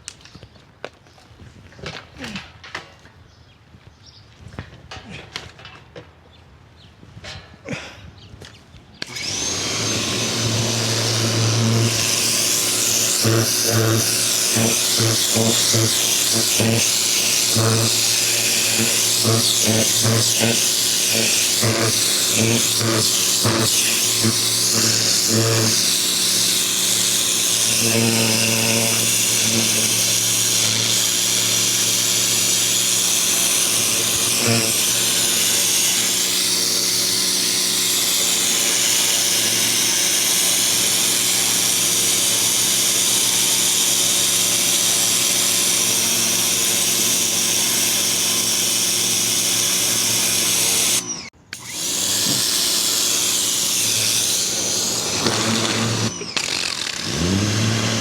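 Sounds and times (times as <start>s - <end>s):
pressure washer motor humming: 9.0s - 58.0s.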